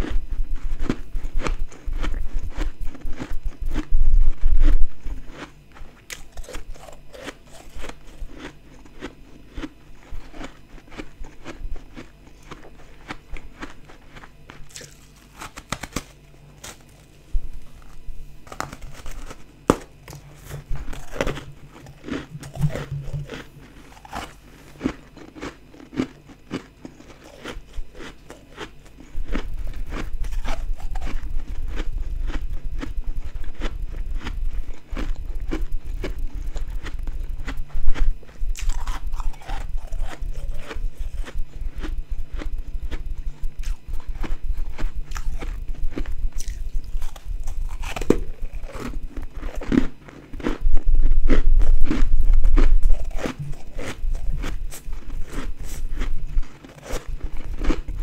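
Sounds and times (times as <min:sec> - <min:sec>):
chewing ice crunches: 0:00.0 - 0:58.0.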